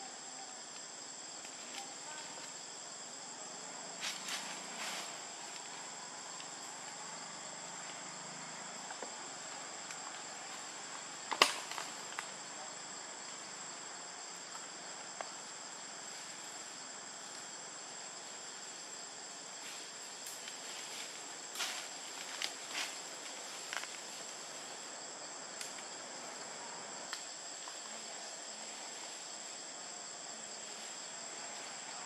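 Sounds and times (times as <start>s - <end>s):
forest insects droning: 0.0s - 32.0s.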